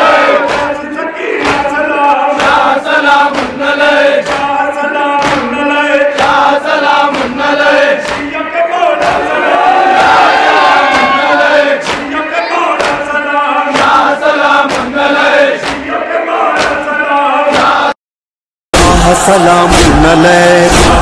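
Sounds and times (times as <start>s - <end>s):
crowd of men chanting: 0.0s - 18.0s, 18.8s - 21.0s.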